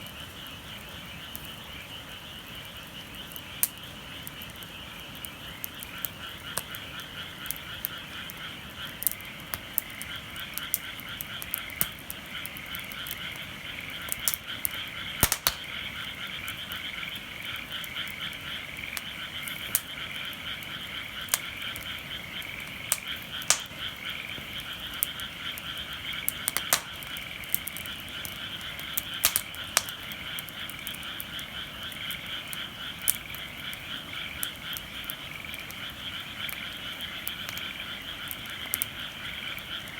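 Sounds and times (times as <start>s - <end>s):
wood fire popping and crackling: 0.0s - 1.6s, 2.2s - 39.9s
frog chorus croaking: 0.0s - 39.9s.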